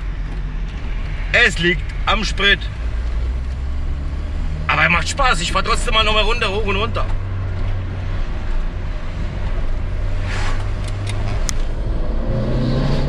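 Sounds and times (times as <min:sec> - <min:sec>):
car engine pulling: 0:00.0 - 0:13.0
road noise: 0:00.0 - 0:13.0.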